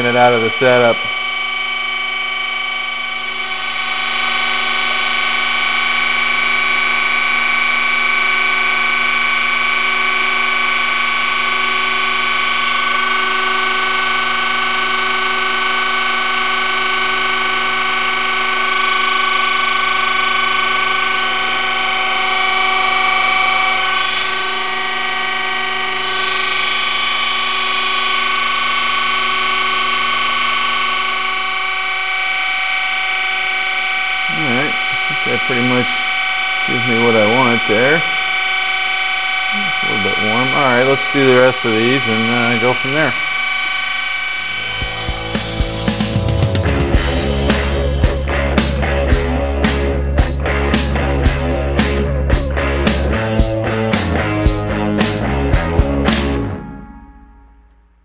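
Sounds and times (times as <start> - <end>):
grinding wheel on steel: 0.0 - 51.0.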